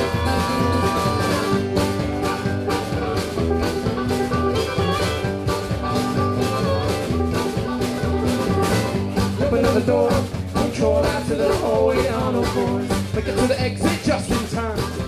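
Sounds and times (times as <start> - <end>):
guitar: 0.0 - 15.0
steady drum beat: 0.0 - 15.0.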